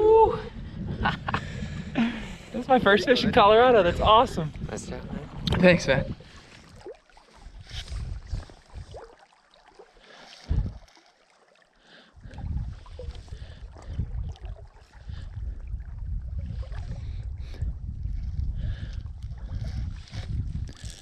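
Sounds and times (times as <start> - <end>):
wind rumbling on microphone: 0.0 - 9.2, 10.4 - 10.9, 12.2 - 21.0.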